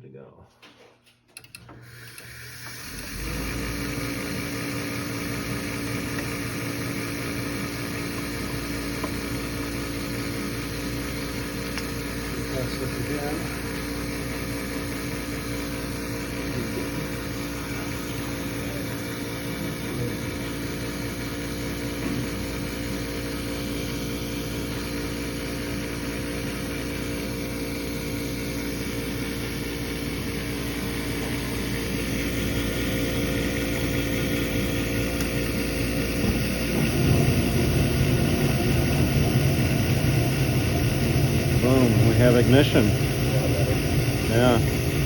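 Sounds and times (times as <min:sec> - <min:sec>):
furnace motor humming: 0:01.1 - 0:45.0.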